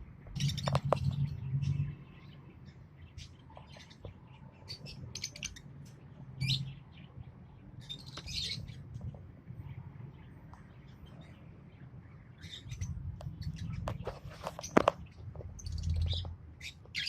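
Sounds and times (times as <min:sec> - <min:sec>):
lovebirds chirping: 0:00.1 - 0:17.0.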